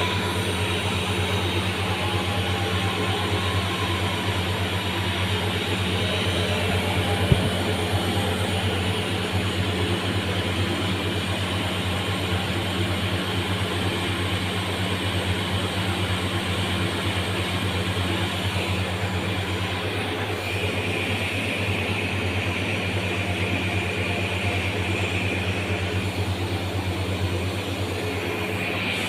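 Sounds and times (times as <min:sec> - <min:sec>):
grinding machine motor hum: 0:00.0 - 0:29.0.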